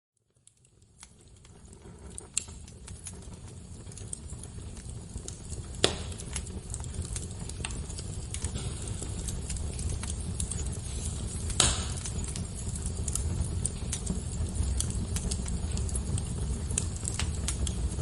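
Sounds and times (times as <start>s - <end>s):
fire crackling and popping: 0.2s - 18.0s.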